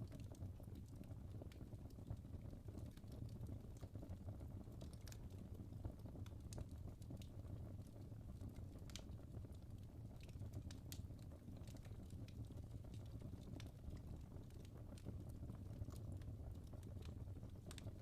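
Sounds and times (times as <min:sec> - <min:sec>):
logs crackling and popping: 0:00.0 - 0:18.0
low rumble of flames: 0:00.0 - 0:18.0.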